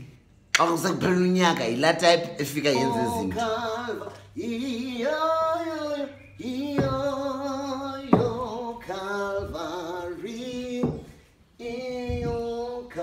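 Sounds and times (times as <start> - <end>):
man singing unaccompanied: 2.5 - 13.0.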